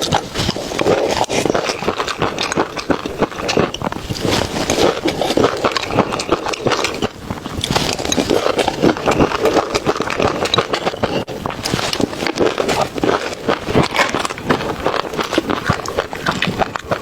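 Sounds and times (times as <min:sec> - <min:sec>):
chewing and mouth smacking: 0:00.0 - 0:17.0.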